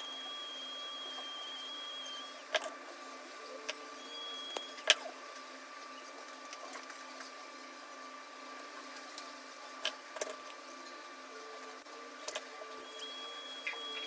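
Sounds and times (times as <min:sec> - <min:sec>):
faint electric equipment hum: 0:00.0 - 0:14.0.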